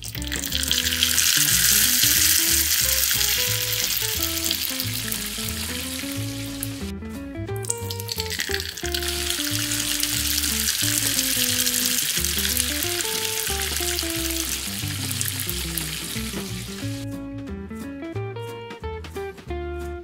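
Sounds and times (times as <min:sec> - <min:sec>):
food sizzling in hot oil: 0:00.0 - 0:06.9, 0:07.6 - 0:17.0
plucked-string background music: 0:00.0 - 0:20.0.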